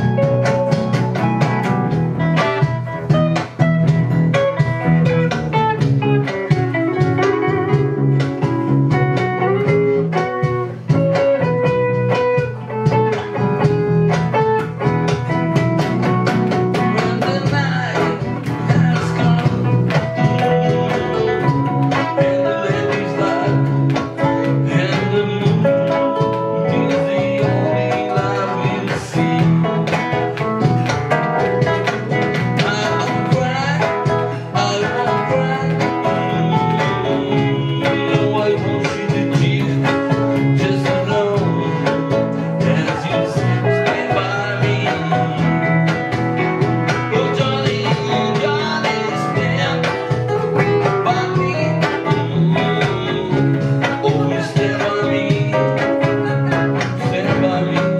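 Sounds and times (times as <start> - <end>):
guitars playing together: 0.0 - 57.9.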